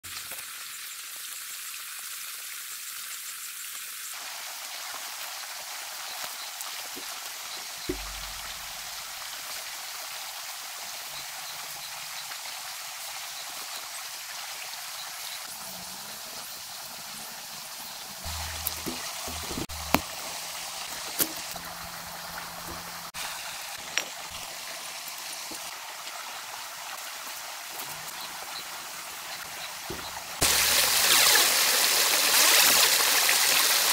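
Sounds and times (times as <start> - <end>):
rain-like hiss with pattering ticks: 0.1 - 15.6, 17.8 - 31.4.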